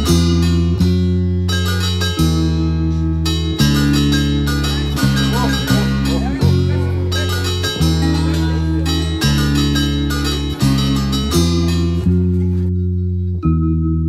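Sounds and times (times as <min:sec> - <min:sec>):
plucked guitar: 0:00.0 - 0:14.0
sustained bass notes: 0:00.0 - 0:14.0.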